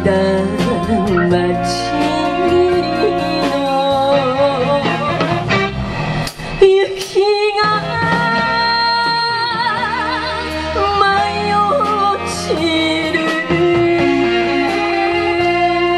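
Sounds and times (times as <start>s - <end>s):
woman singing: 0.0s - 5.3s, 6.6s - 15.9s
drums: 0.0s - 15.9s.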